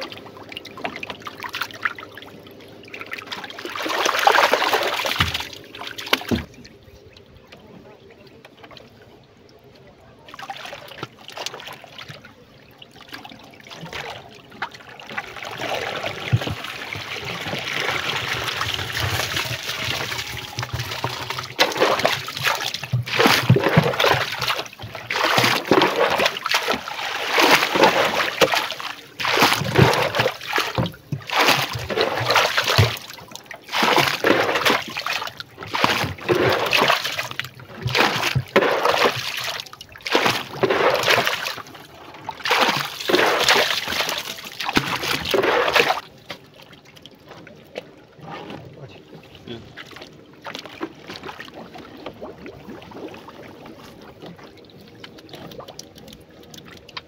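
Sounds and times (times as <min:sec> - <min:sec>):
water rushing: 0:00.0 - 0:08.8, 0:10.1 - 0:57.0
river water splashing: 0:00.0 - 0:57.0.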